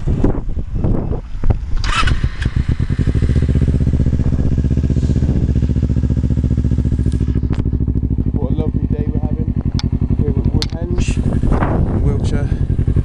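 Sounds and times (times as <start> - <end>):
motorcycle engine idling: 0.5 - 13.0.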